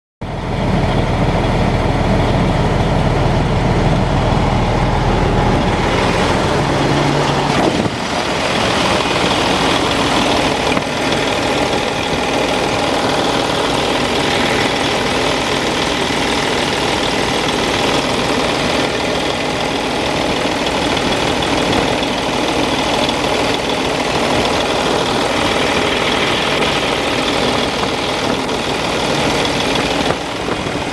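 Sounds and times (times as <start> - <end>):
diesel truck engine idling: 0.2 - 30.9.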